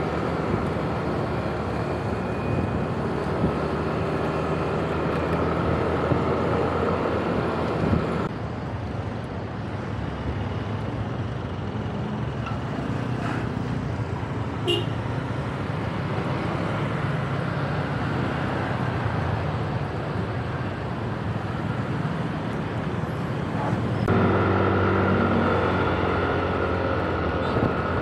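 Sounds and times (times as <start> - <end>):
vehicle rumble with low hum: 0.0 - 28.0.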